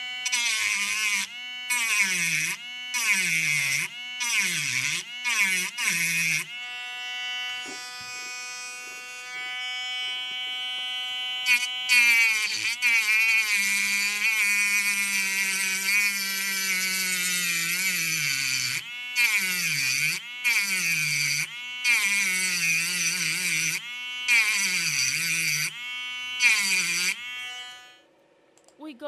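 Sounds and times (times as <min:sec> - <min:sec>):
rotary tool cutting metal: 0:00.0 - 0:28.0.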